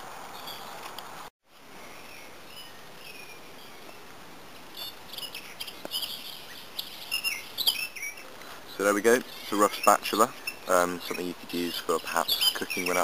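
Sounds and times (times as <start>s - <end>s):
steady background hiss: 0.0s - 13.0s
small birds chirping: 0.3s - 1.0s, 1.6s - 13.0s.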